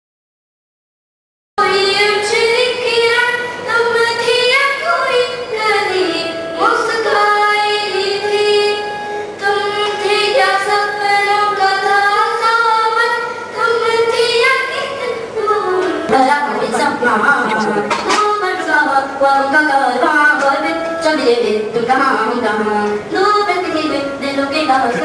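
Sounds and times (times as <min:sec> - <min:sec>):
girl singing into a microphone: 0:01.6 - 0:25.0.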